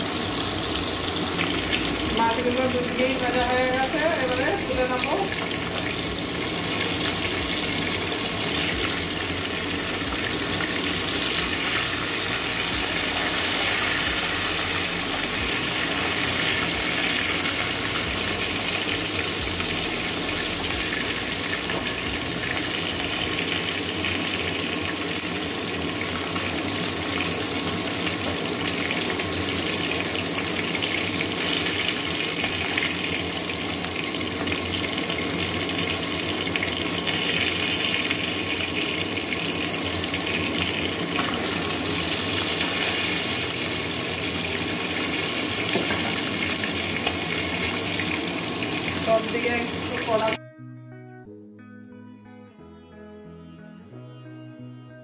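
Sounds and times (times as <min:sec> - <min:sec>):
fish sizzling in oil: 0:00.0 - 0:50.4.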